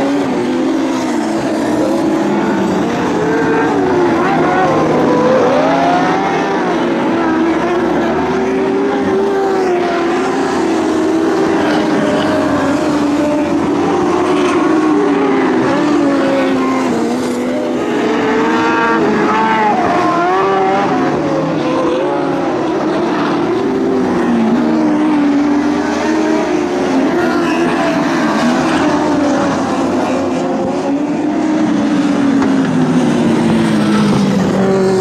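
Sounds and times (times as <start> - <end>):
race car engines at high revs: 0.0 - 35.0.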